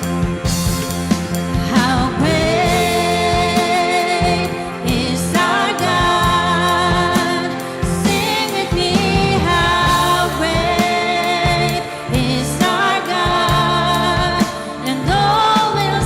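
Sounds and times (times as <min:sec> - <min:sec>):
worship band playing: 0:00.0 - 0:16.0
person singing: 0:01.6 - 0:16.0.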